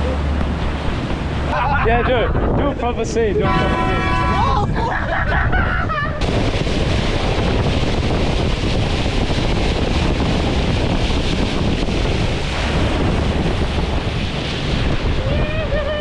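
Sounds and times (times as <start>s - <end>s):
sea water rushing: 0.0s - 16.0s
wind buffeting microphone: 0.0s - 16.0s.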